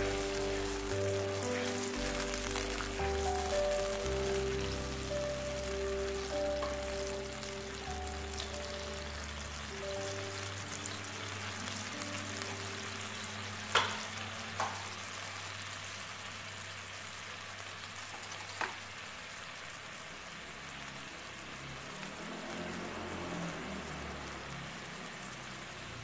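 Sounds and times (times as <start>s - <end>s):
sauce boiling in a wok: 0.0s - 26.0s.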